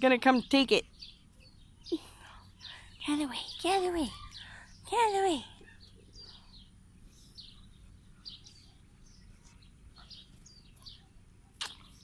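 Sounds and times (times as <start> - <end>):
faint bird chirps: 0.3 - 12.0.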